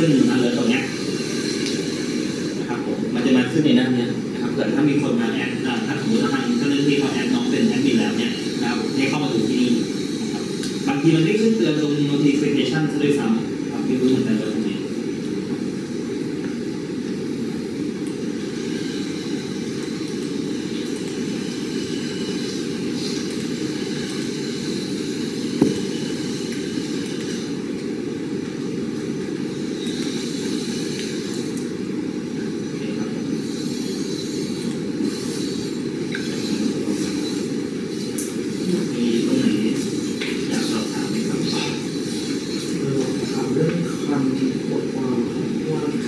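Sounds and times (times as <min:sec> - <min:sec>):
low rumbling background noise: 0:00.0 - 0:46.0.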